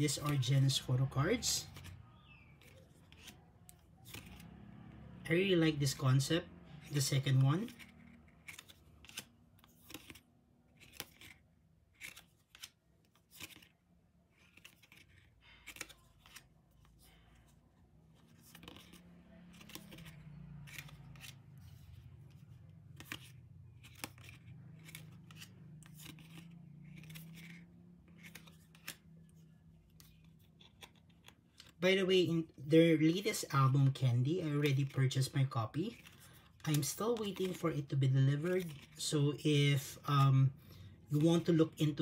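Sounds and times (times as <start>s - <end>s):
photocards clicking and sliding: 0.1s - 31.8s, 33.8s - 39.8s.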